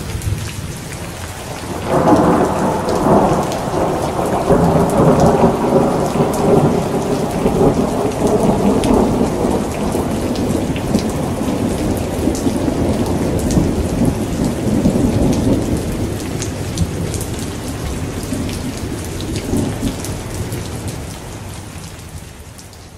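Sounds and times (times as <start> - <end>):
steady rain falling: 0.0 - 22.9
raindrop ticks: 0.1 - 21.0
thunder rumbling: 1.6 - 21.2.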